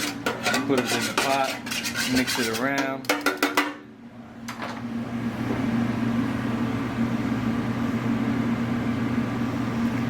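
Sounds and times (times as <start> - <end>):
low electrical hum with rushing: 0.0 - 10.0.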